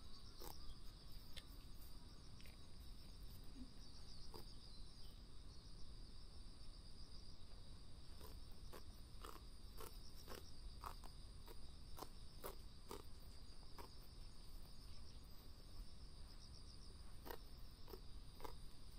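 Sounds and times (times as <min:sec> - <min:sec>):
insects chirping: 0:00.0 - 0:18.9.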